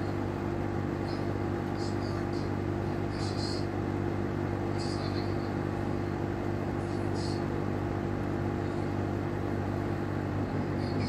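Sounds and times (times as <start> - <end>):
dehumidifier humming: 0.0 - 11.0.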